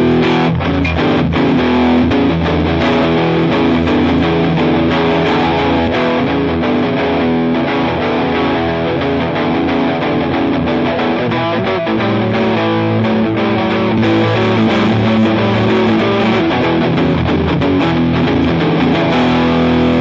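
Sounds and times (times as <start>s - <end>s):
overdriven electric guitar chords: 0.0s - 20.0s.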